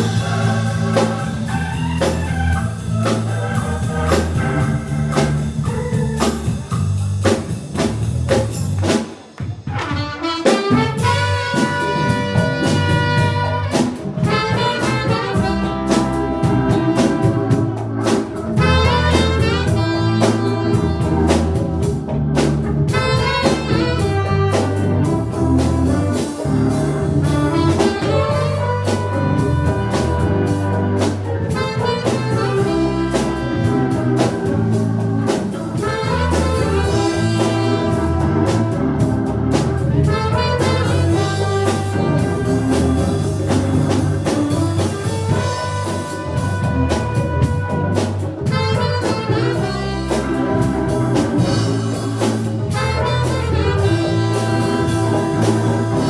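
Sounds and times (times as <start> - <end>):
horn melody: 0.0 - 7.9, 9.7 - 56.0
jazz band playing: 0.0 - 56.0.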